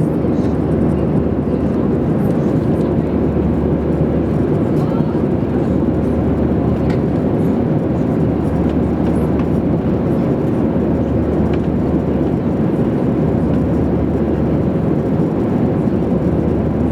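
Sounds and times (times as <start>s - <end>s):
jet airliner cabin roar: 0.0s - 16.9s.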